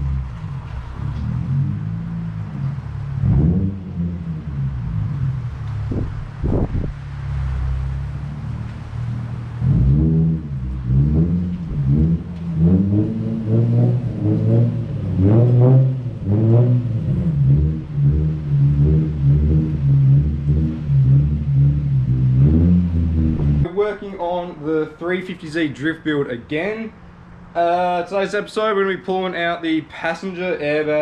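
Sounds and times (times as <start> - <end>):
car engine revving: 0.0 - 25.6.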